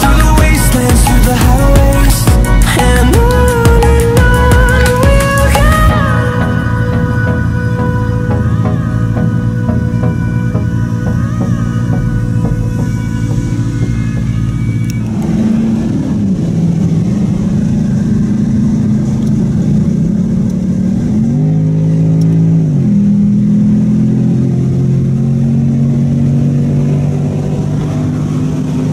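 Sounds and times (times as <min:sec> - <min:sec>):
car engine accelerating: 0:00.0 - 0:28.9.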